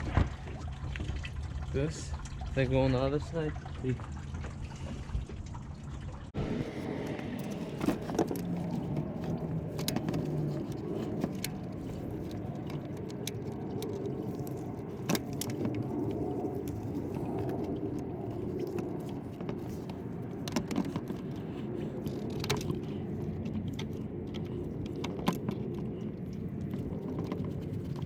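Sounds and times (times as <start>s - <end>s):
low background rumble: 0.0s - 28.0s.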